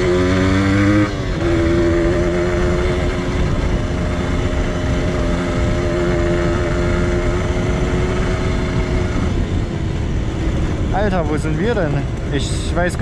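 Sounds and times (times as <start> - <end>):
low rumble: 0.0 - 13.0
two-stroke motorcycle engine running: 0.0 - 13.0.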